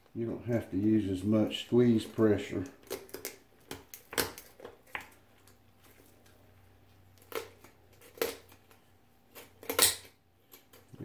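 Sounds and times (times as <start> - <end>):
poultry cutters crunching bone: 1.7 - 11.0.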